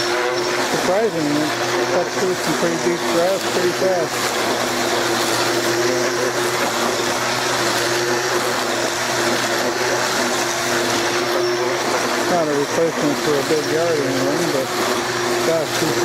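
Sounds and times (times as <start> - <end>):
electric string trimmer motor whine: 0.0 - 16.0.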